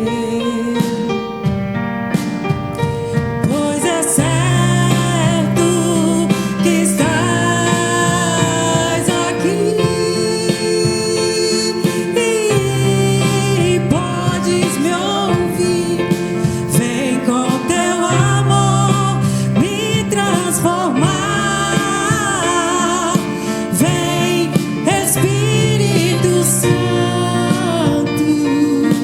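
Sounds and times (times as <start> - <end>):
person singing: 0.0 - 1.6, 2.7 - 29.0
live band playing worship song: 0.0 - 29.0.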